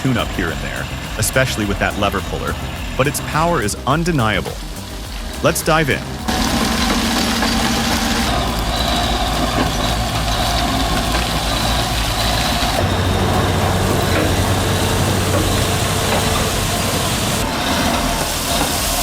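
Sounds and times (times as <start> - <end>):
heavy diesel engine running hard: 0.0 - 19.0.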